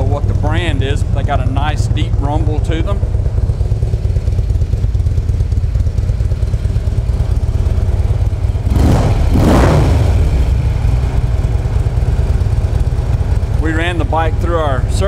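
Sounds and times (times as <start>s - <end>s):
motorcycle engine idling: 0.0s - 15.0s
motorcycle throttle blips: 0.0s - 15.0s.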